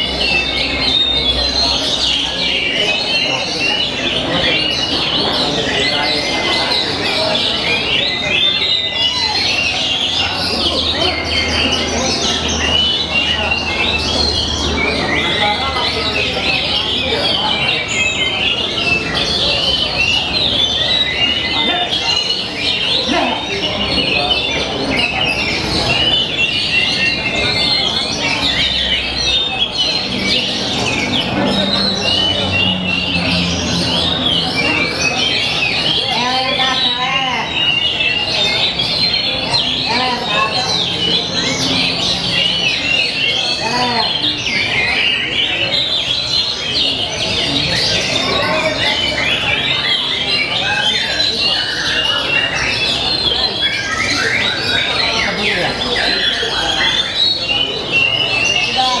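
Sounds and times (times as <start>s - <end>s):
bird singing fast chirps and trills: 0.0s - 59.0s.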